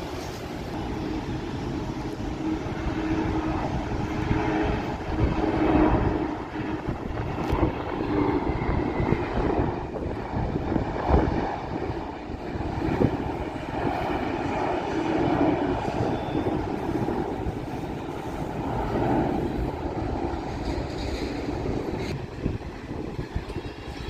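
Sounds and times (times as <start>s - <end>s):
jet airliner engine rumble: 0.0s - 24.0s.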